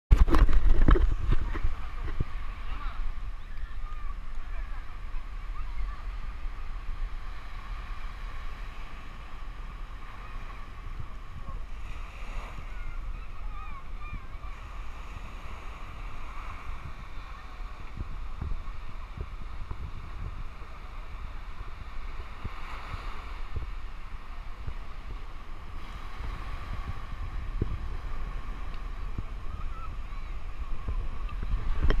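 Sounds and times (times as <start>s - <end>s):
surf washing on shore: 0.1s - 32.0s
wind buffeting microphone: 0.1s - 32.0s.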